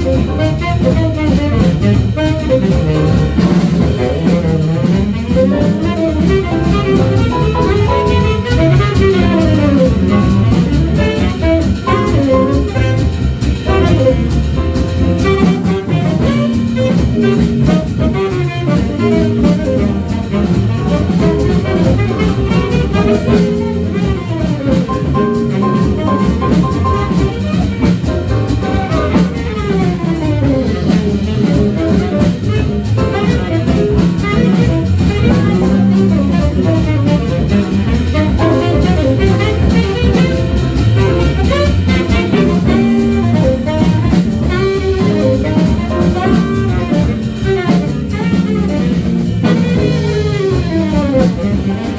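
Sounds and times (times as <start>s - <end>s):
drum kit: 0.0s - 51.9s
saxophone: 0.0s - 51.9s.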